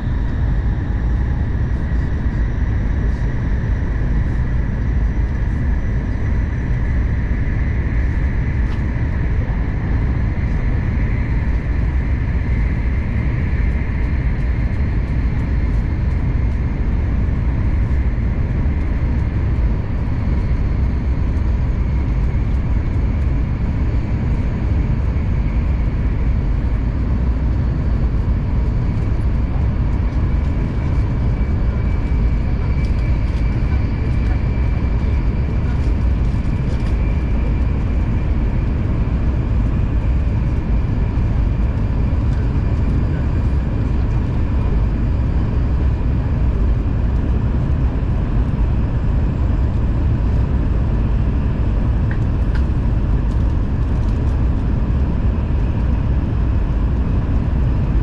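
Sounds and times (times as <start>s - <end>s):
train cabin low rumble: 0.0s - 57.0s
faint steady whine: 0.0s - 58.0s.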